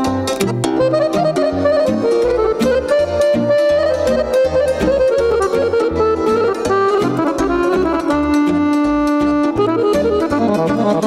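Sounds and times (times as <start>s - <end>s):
folk band playing melody: 0.0s - 11.0s
steady bass beat: 0.0s - 11.0s.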